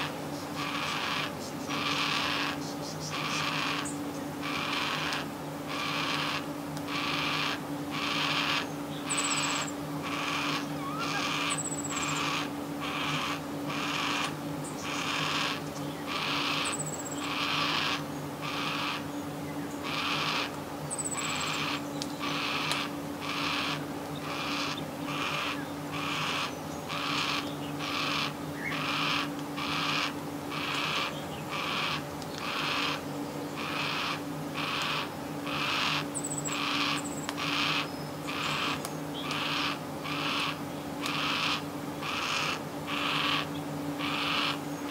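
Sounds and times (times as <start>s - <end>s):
young cockatoo begging calls: 0.0s - 19.1s, 19.8s - 44.9s.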